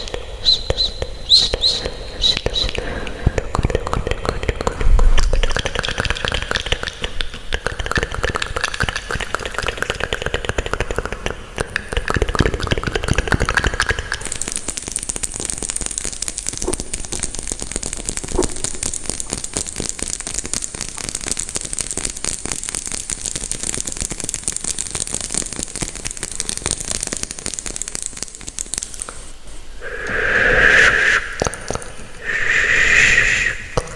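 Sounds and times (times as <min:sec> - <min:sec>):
dense crackling clicks with hiss: 0:00.0 - 0:33.9.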